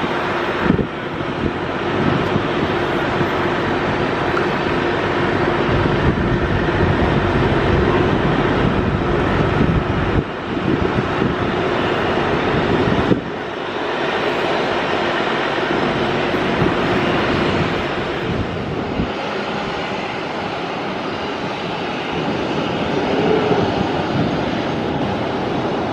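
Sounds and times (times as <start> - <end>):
deep engine rumble: 0.0 - 25.9
jet engines running: 0.0 - 25.9.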